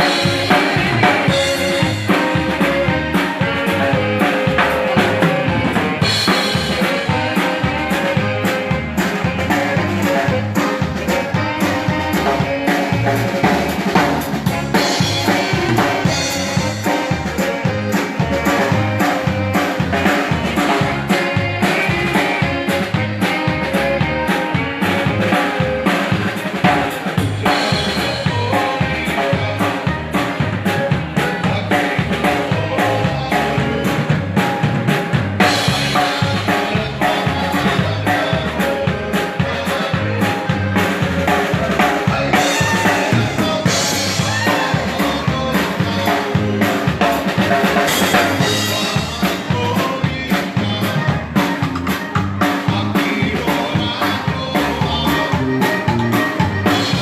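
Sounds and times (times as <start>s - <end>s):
dance band playing: 0.0s - 57.0s
drum kit beat: 0.0s - 57.0s.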